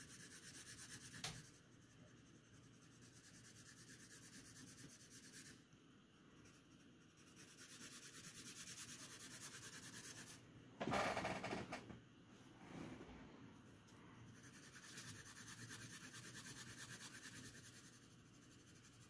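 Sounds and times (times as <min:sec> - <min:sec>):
pencil shading on paper: 0:00.0 - 0:10.4, 0:13.8 - 0:19.0.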